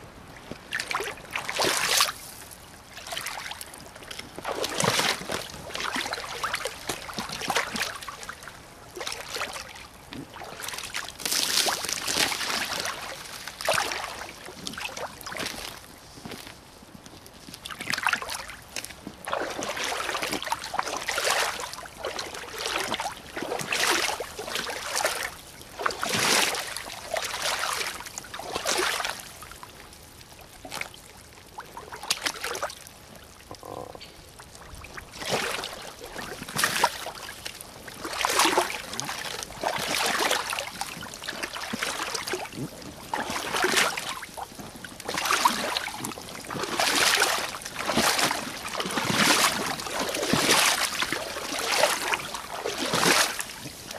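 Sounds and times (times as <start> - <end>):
boots splashing through water: 0.4 - 2.4, 3.0 - 16.5, 17.5 - 29.5, 31.6 - 32.8, 34.8 - 53.9.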